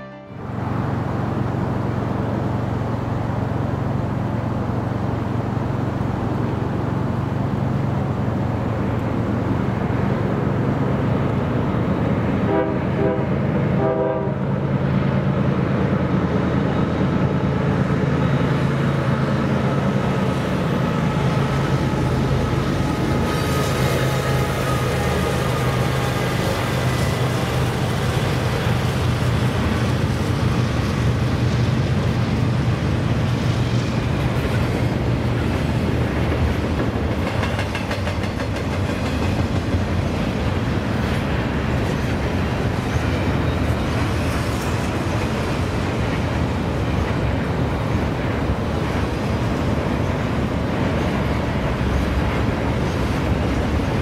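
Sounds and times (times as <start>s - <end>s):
diesel locomotive engine drone: 0.0s - 54.0s
train wheels rumbling and clattering: 0.5s - 54.0s.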